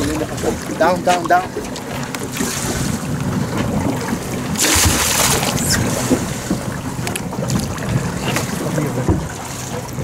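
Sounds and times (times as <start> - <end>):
boat engine low rumble: 0.0 - 10.0
water noise: 0.0 - 10.0
wind: 0.0 - 10.0.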